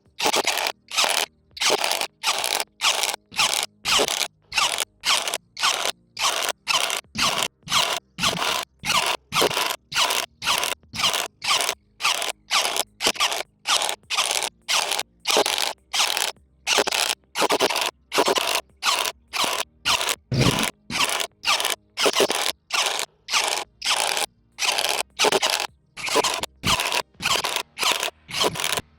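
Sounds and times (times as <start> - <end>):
impact driver rattling: 0.2 - 28.8.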